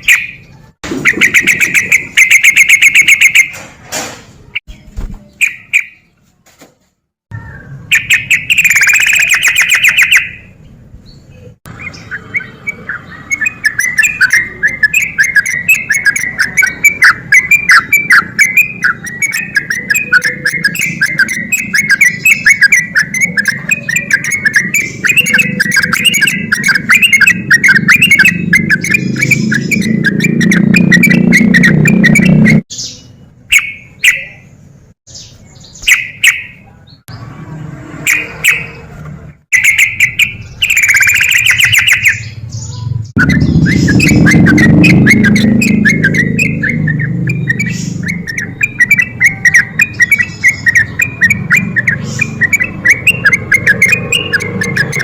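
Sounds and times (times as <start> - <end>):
bulbul singing fast chattering phrases: 0.0 - 3.5, 7.3 - 10.6, 11.3 - 37.0, 39.5 - 55.0.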